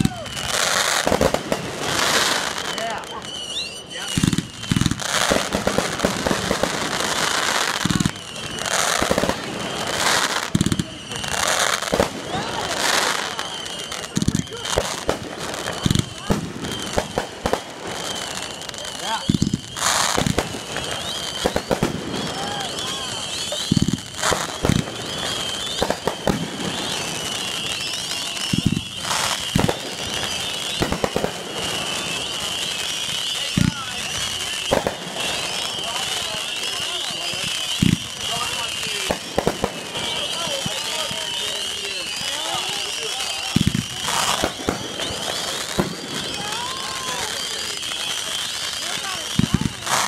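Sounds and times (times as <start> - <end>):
firework hiss: 0.0 - 50.0
fireworks crackling pops: 0.0 - 50.0.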